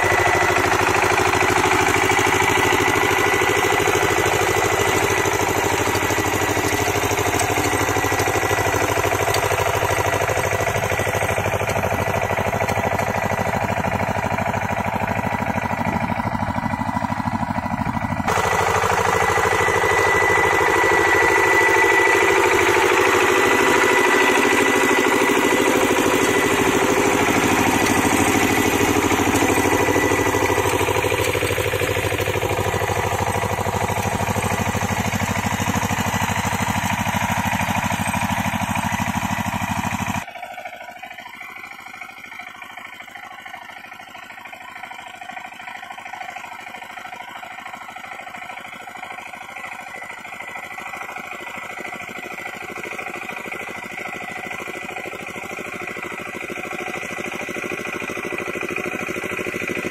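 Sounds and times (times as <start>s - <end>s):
diesel tiller engine running: 0.0s - 59.9s.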